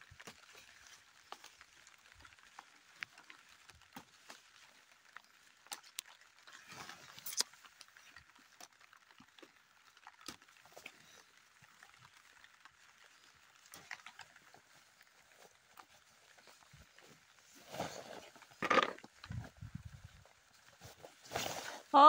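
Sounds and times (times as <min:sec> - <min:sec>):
rustling of wet leaves: 0:00.0 - 0:22.0.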